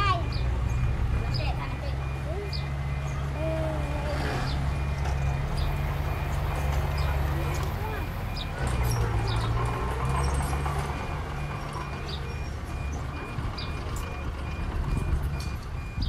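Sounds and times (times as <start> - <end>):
heavy diesel engine drone: 0.0 - 16.0
rapid high beeping: 0.0 - 16.0.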